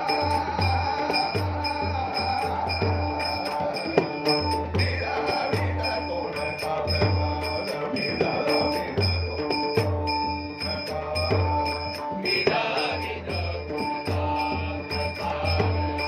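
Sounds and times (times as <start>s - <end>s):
devotional music: 0.0s - 16.0s
hand cymbals ringing: 0.0s - 16.0s
steady drum beat: 0.0s - 16.0s.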